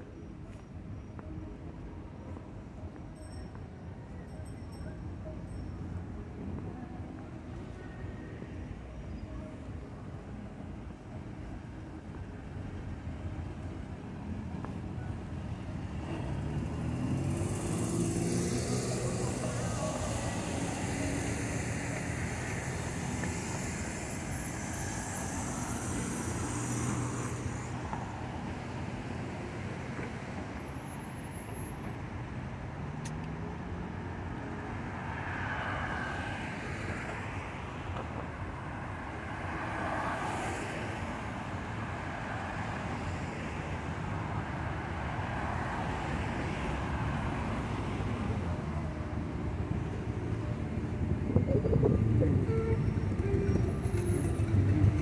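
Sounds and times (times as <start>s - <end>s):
vehicle engines humming: 0.0s - 55.0s.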